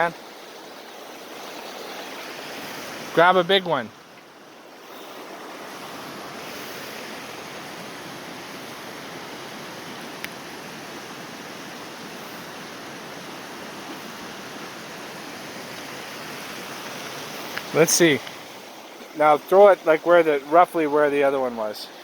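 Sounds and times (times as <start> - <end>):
creek rushing: 0.0 - 22.0.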